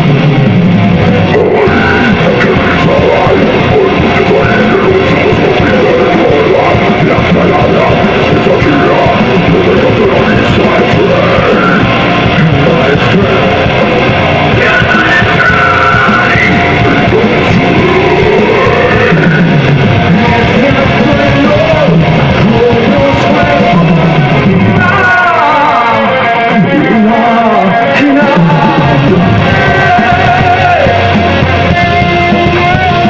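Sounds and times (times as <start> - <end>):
rock band playing live: 0.0 - 33.0
person singing: 1.0 - 33.0.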